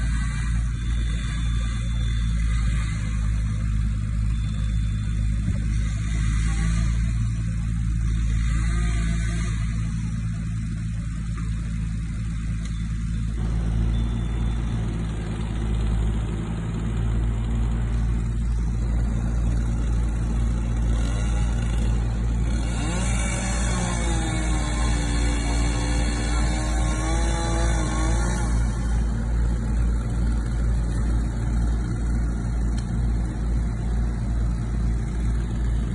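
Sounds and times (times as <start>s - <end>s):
large engine droning: 0.0s - 35.9s.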